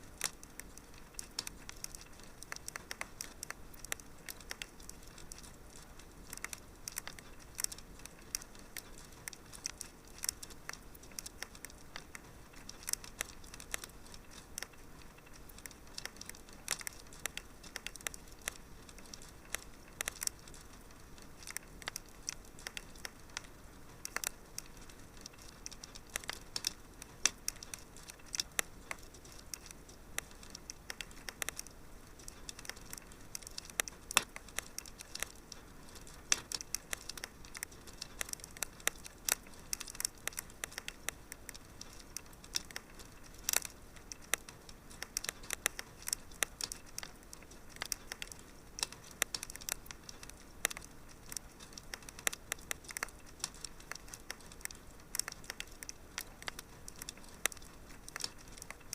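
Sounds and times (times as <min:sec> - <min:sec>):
faint steady hiss: 0:00.0 - 0:58.9
wood fire crackling: 0:00.0 - 0:58.9.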